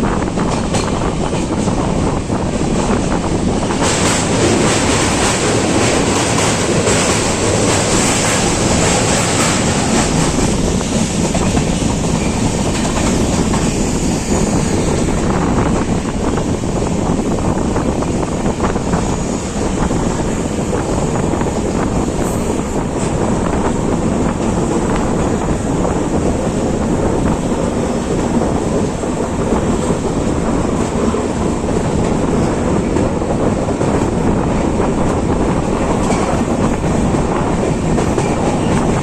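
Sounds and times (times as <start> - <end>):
train wheels rumbling on rails: 0.0 - 39.0
wind buffeting microphone: 0.0 - 39.0.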